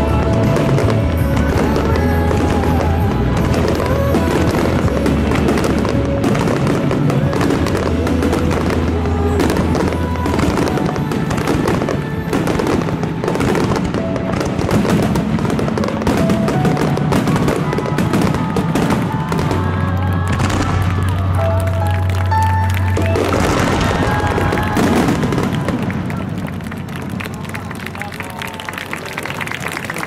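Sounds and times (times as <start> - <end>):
fireworks bangs and crackles: 0.0 - 30.0
music: 0.0 - 30.0.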